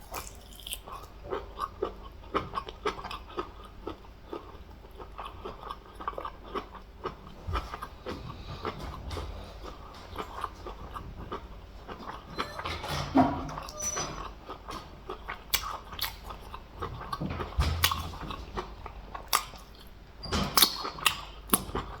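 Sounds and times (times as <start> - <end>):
wet chewing and lip smacking: 0.0 - 12.3, 14.4 - 20.0, 20.6 - 22.0.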